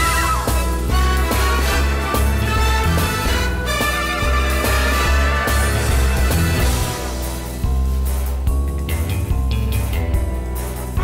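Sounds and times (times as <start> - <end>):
upbeat music with bass line: 0.0 - 11.0.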